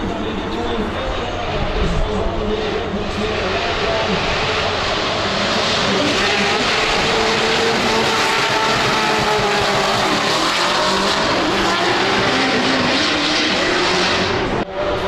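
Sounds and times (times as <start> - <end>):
car engines revving high: 0.0 - 15.0.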